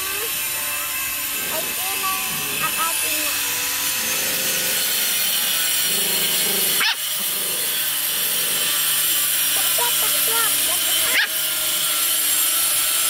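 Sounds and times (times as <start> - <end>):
puppies growling: 0.0 - 12.0.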